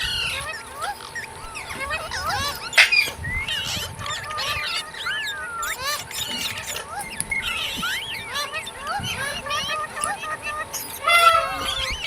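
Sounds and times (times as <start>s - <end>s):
loud parrot call: 0.0s - 12.0s
parrots chattering: 0.0s - 12.0s.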